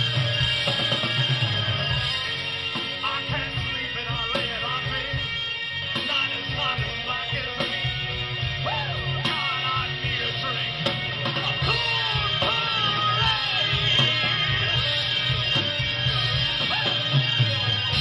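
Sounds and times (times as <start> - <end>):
live rock band playing: 0.0 - 18.0
man singing lead vocals: 0.0 - 18.0.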